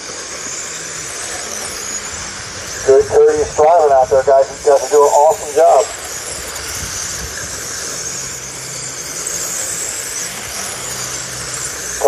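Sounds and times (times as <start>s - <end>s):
rc car electric motor whine: 0.0s - 12.0s
rushing noise: 0.6s - 12.0s.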